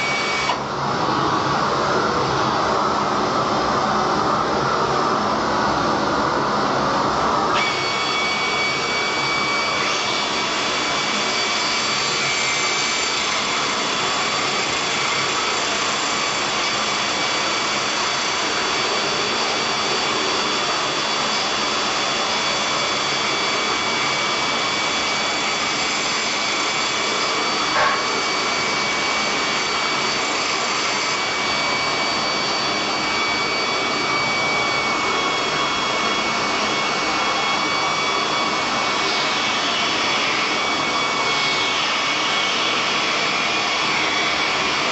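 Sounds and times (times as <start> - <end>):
angle grinder whining: 0.0 - 44.9.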